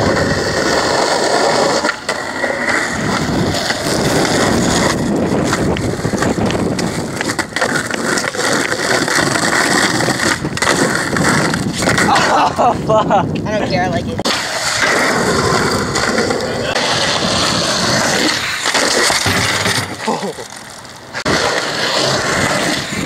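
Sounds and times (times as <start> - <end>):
skateboard clacking on ground: 0.0 - 12.7, 13.3 - 23.0
skateboard wheels rolling on asphalt: 0.0 - 23.0.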